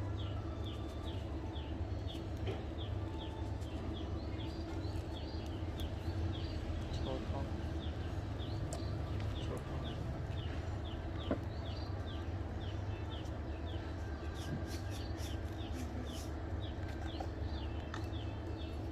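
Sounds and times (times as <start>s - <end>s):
bird chirping: 0.2s - 18.9s.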